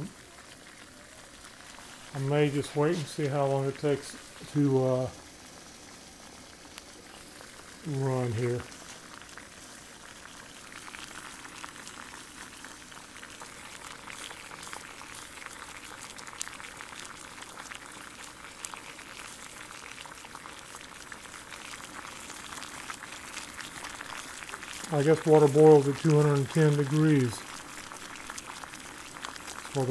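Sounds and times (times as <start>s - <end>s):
water boiling and bubbling: 0.0s - 29.9s.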